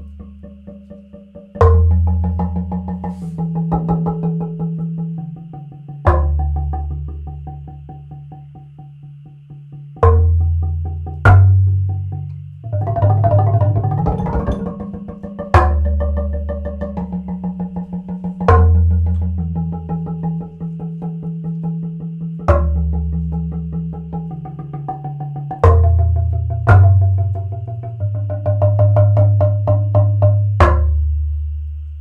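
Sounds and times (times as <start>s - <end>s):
deep low wooden strikes: 0.0s - 32.0s
wooden xylophone notes: 0.0s - 32.0s.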